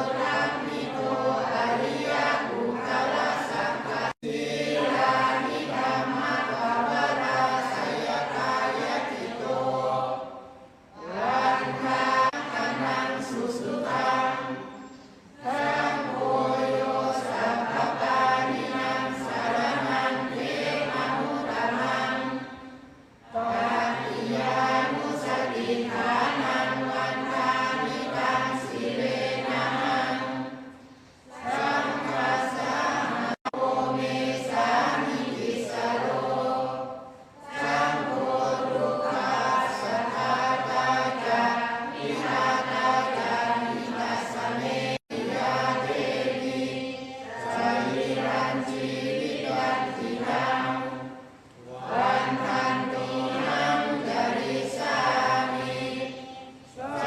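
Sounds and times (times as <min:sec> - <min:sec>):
group chanting in unison: 0:00.0 - 0:57.0.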